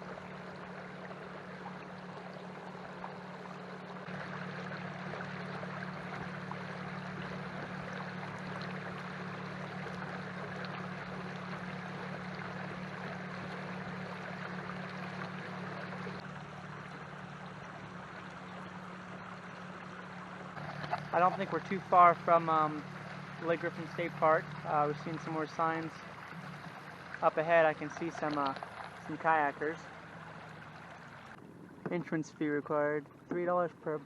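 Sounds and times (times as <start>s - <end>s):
low motor hum: 0.0s - 34.0s
water rushing along hull: 0.0s - 34.0s.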